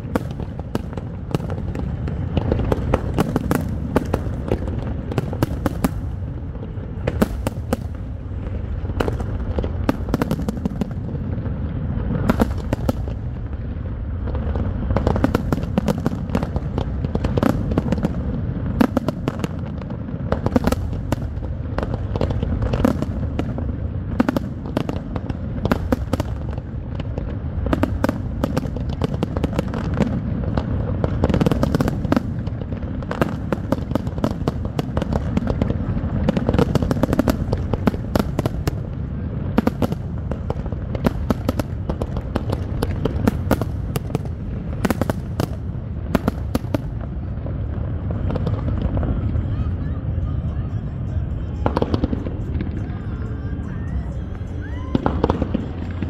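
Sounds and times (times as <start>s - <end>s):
firework bangs: 0.0s - 56.0s
low rumble: 0.0s - 56.0s.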